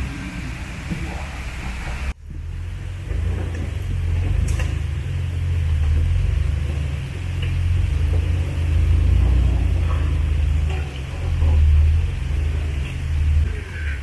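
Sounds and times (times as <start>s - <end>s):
off-road vehicle engine rumble: 0.0s - 14.0s.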